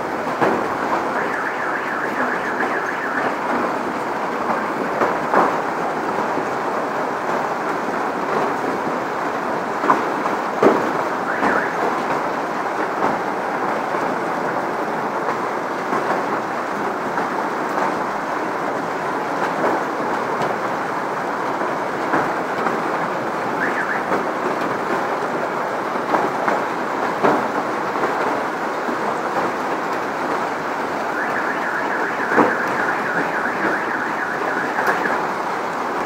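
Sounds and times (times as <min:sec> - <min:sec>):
hail pouring onto pavement: 0:00.0 - 0:36.0.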